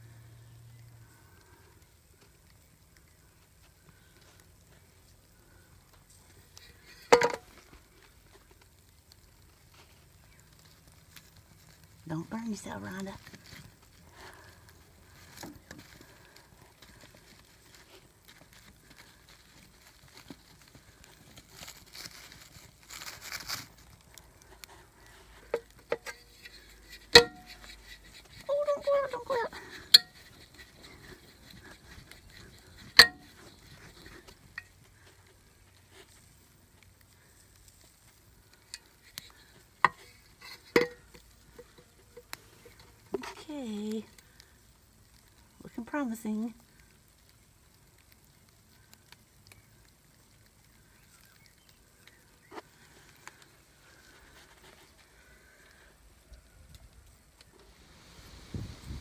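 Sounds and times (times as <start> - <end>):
rustle: 0.0 - 59.0
small fire crackling: 0.0 - 59.0.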